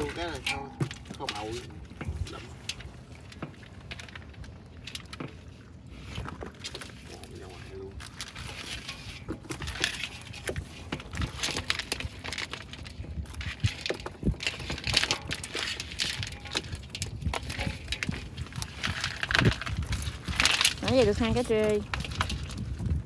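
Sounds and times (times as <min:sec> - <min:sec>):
knocks and rattles: 0:00.0 - 0:07.0, 0:08.0 - 0:23.0.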